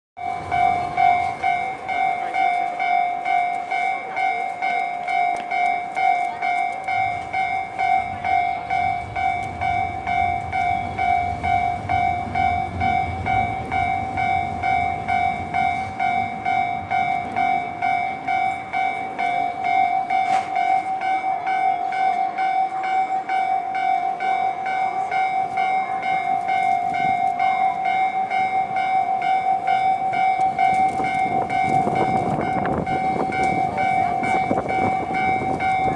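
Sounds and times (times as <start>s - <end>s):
level-crossing alarm bell: 0.2s - 35.9s
train rumbling past: 0.2s - 35.9s.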